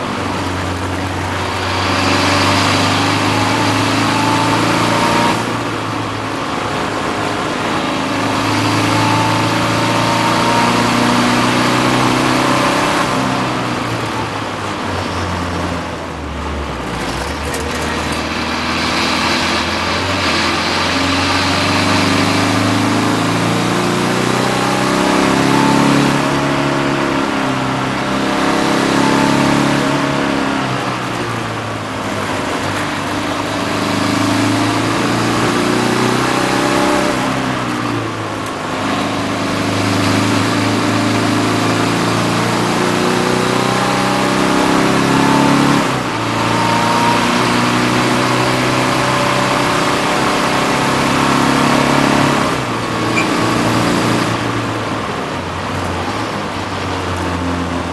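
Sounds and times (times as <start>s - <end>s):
diesel race car engine revving: 0.0s - 57.9s
wind and road noise: 0.0s - 57.9s.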